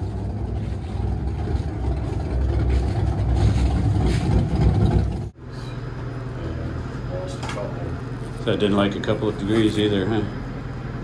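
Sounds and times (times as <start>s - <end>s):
v eight engine running: 0.0s - 11.0s.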